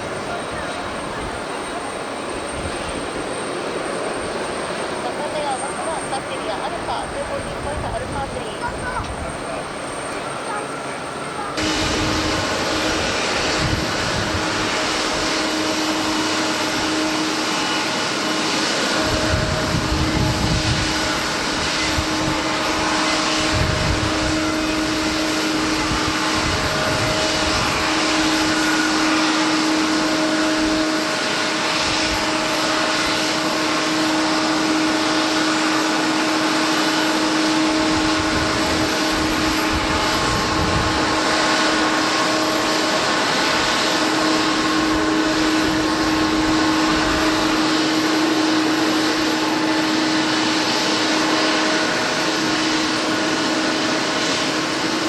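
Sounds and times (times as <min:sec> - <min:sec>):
wind buffeting microphone: 0:00.0 - 0:10.3, 0:11.4 - 0:55.0
jet engines roaring: 0:00.0 - 0:55.0.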